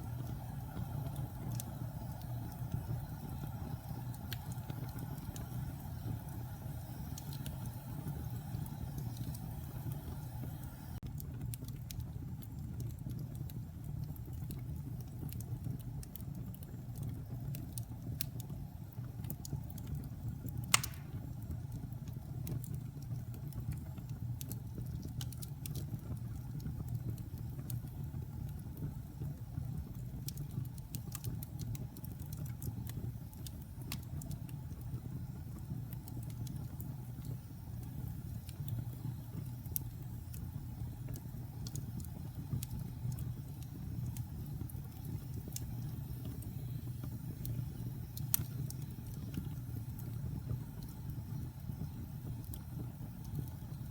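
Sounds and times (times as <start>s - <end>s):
fire crackling and popping: 0.0s - 53.9s
fire rumbling: 0.0s - 53.9s.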